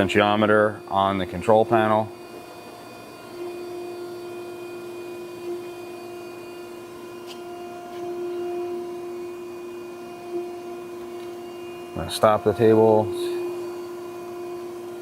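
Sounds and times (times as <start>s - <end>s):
surface grinder humming: 0.0s - 15.0s.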